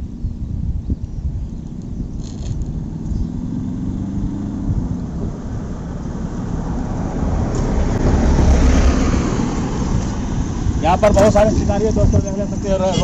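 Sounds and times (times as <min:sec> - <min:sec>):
steady low rumble: 0:00.0 - 0:13.0
vehicle engine approaching: 0:01.4 - 0:13.0.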